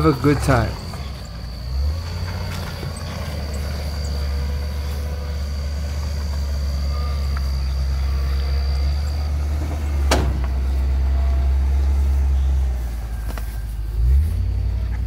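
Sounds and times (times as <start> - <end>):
engine droning at low speed: 0.0 - 15.0.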